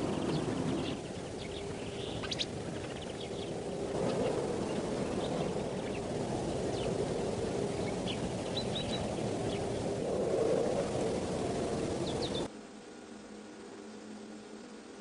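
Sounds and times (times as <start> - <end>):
steady low rumble: 0.0 - 12.5.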